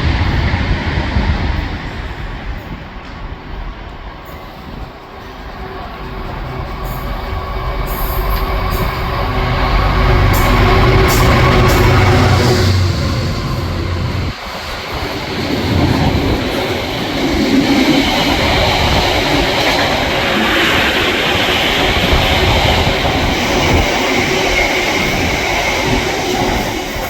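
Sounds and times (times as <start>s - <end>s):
freight train wagons passing: 0.0s - 27.0s.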